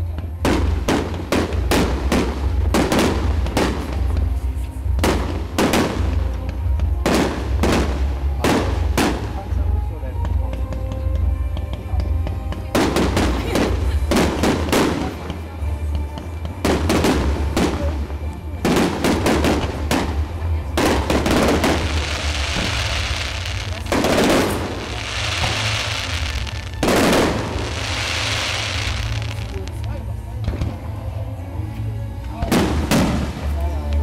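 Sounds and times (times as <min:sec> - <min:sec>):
fireworks bursting with sharp bangs: 0:00.0 - 0:09.6, 0:10.2 - 0:30.8, 0:32.4 - 0:34.0
crackling hiss of fireworks: 0:00.0 - 0:31.2, 0:32.2 - 0:34.0.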